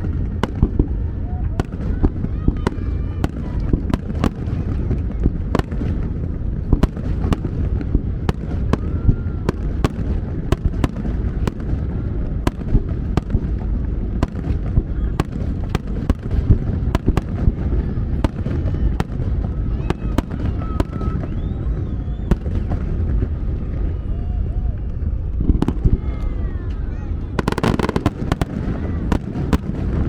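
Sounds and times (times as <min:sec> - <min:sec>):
fireworks bangs: 0:00.0 - 0:24.2, 0:25.0 - 0:30.0
low rumble of booms: 0:00.0 - 0:30.0.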